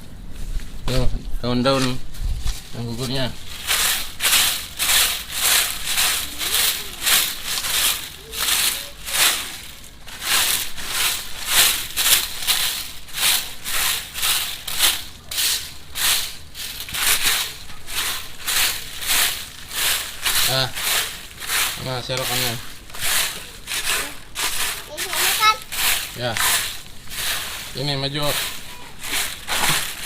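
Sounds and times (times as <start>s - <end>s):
leaves being raked: 0.3s - 30.0s.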